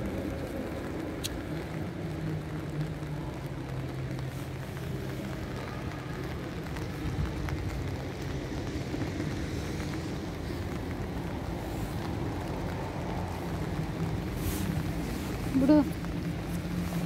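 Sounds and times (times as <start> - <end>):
traffic hum: 0.0 - 17.0.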